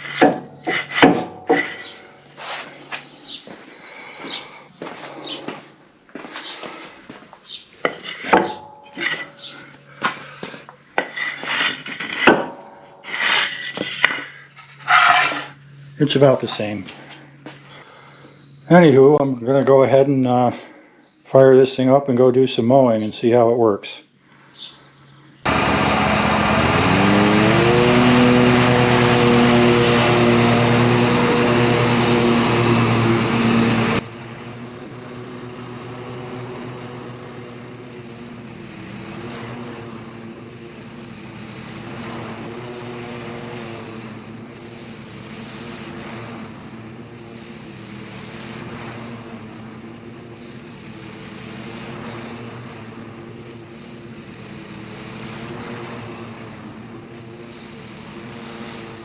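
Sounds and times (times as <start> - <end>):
lawn tractor engine: 0.0 - 20.5, 25.4 - 59.0.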